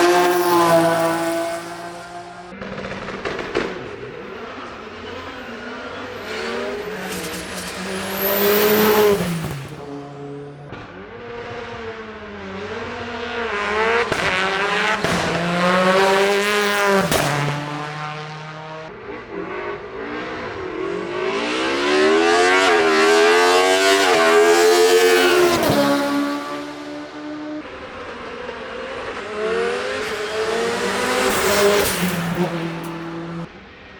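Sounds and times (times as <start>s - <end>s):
race car engine accelerating: 0.0s - 33.5s.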